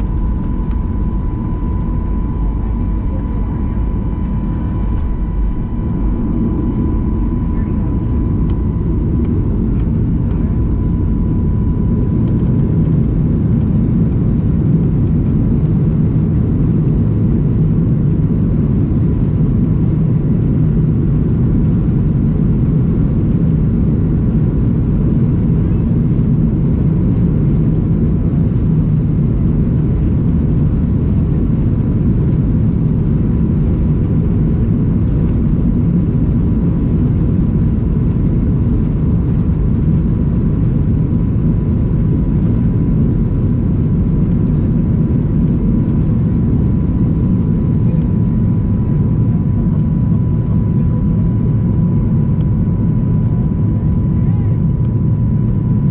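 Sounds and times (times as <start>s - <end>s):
jet engines rumbling from cabin: 0.0s - 55.9s.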